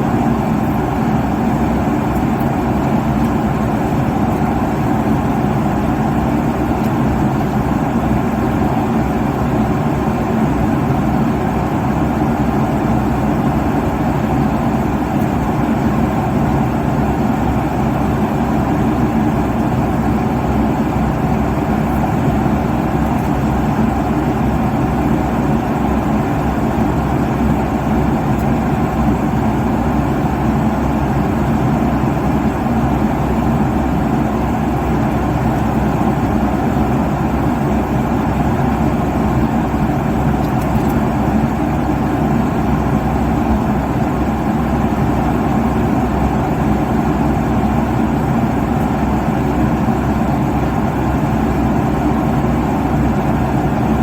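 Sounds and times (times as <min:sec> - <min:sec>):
airliner cabin engine rush: 0:00.0 - 0:54.0.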